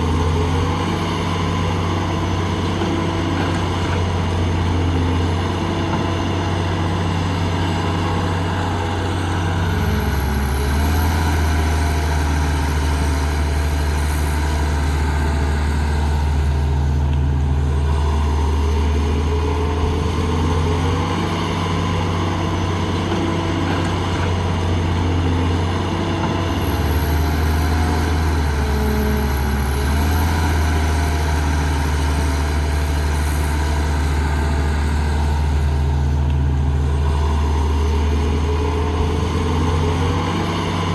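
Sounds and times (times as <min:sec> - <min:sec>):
heavy diesel engine running hard: 0:00.0 - 0:40.9.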